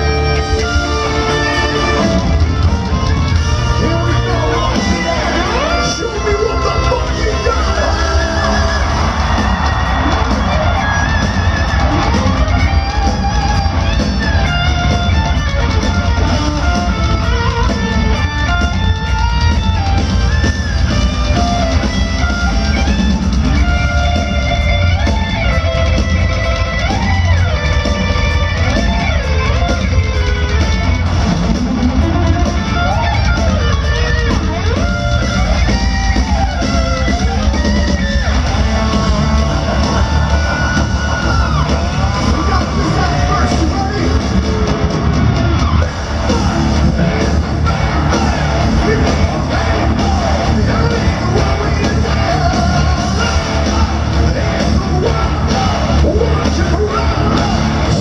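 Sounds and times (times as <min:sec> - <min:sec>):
heavy metal band playing live: 0:00.0 - 0:58.0
lead electric guitar: 0:00.0 - 0:58.0.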